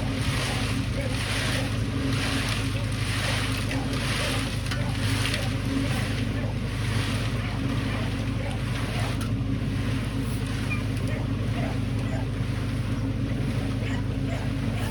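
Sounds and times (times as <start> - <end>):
engine humming: 0.0 - 14.9.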